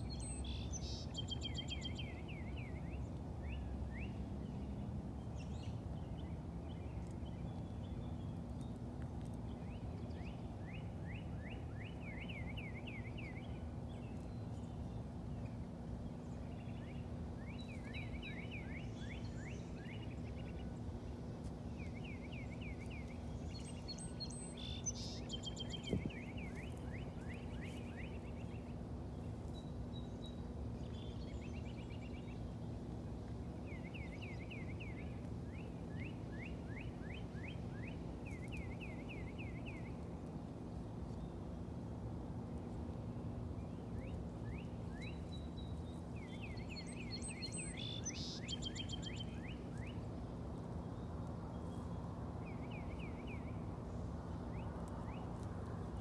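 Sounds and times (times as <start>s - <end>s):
small bird singing: 0.0s - 32.7s, 43.6s - 56.0s
steady low hum: 0.0s - 56.0s.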